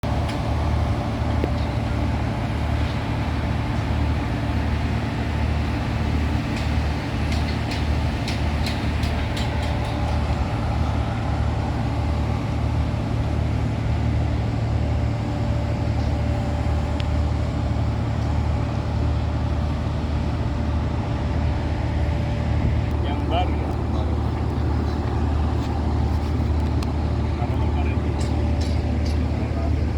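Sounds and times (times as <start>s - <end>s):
large engine droning: 0.0s - 29.9s
thin steady whine: 0.0s - 29.9s.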